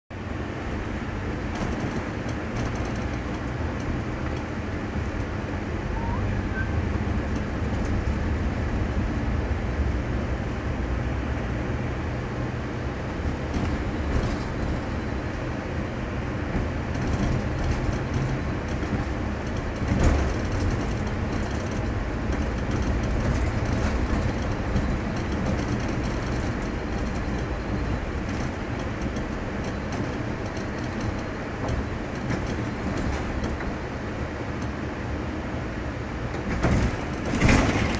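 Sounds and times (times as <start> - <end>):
bus engine and road noise: 0.1 - 37.9.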